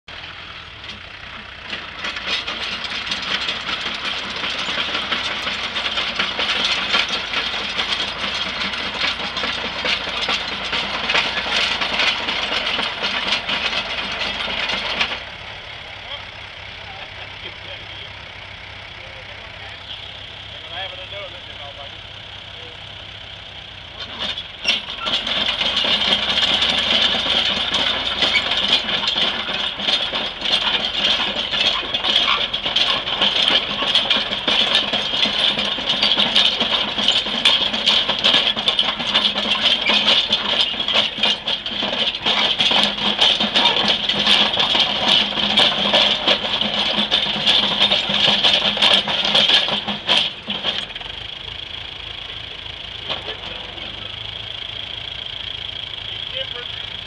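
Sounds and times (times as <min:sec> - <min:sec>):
tractor engine idling: 0:00.0 - 0:57.0
metal tracks clattering: 0:00.7 - 0:57.0.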